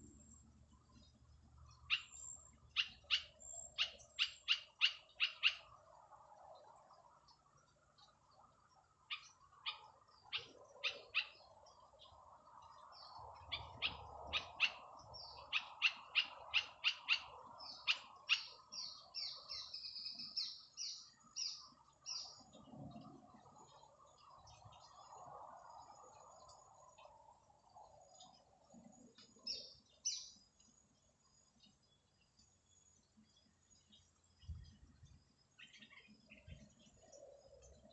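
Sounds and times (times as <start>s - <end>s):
small bird chirping: 0.0s - 6.0s, 6.7s - 37.9s.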